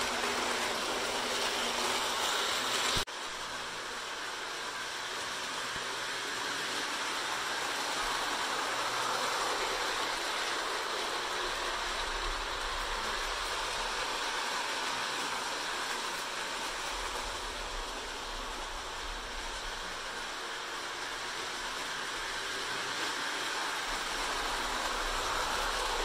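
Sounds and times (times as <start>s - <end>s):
toy train wheels rolling on rails: 0.0s - 26.0s.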